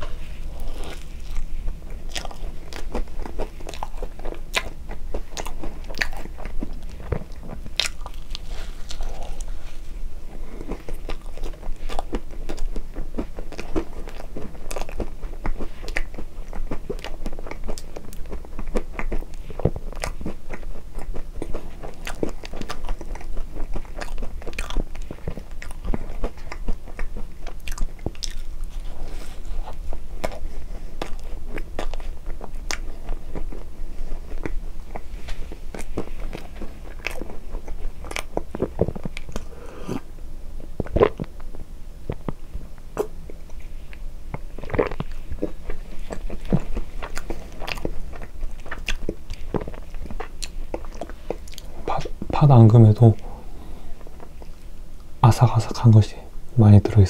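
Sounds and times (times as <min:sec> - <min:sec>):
wet chewing: 0:00.0 - 0:40.1, 0:40.7 - 0:55.8.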